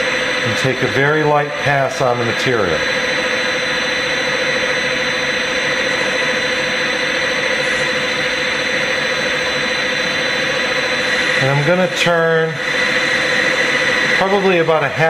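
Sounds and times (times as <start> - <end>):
lathe spindle whine: 0.0 - 15.0.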